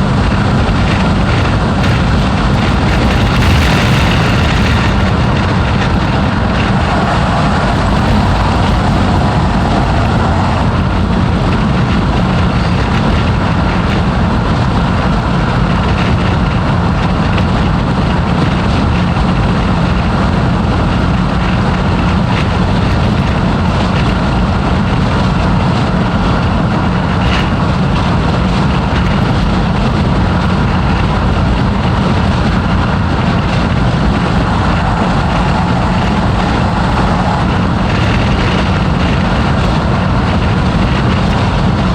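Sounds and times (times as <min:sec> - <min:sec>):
car engine drone: 0:00.0 - 0:41.9
road noise: 0:00.0 - 0:41.9.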